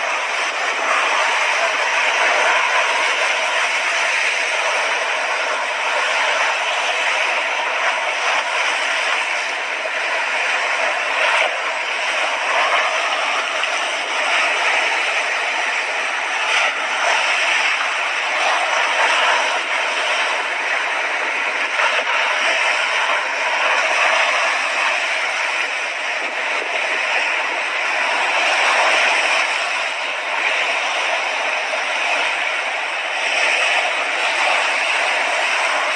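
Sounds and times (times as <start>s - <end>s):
sea waves washing on beach: 0.0s - 35.9s.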